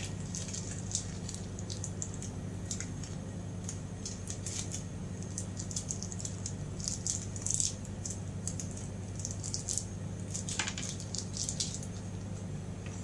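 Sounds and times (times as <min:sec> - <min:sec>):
candy wrappers crinkling: 0:00.0 - 0:12.0
steady low hum: 0:00.0 - 0:13.0.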